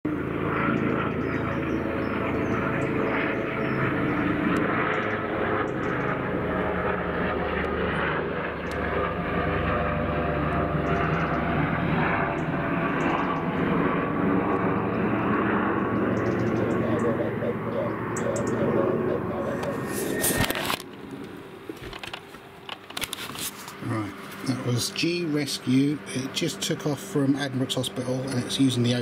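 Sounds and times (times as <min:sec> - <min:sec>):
helicopter flying past: 0:00.0 - 0:29.0.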